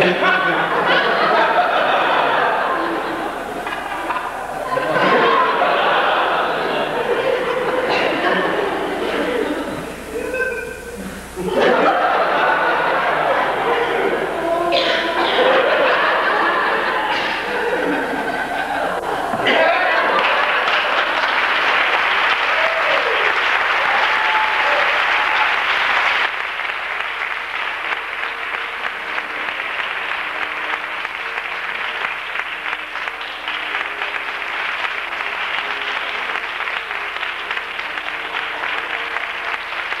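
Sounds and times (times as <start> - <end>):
audience applauding: 0.0 - 40.0.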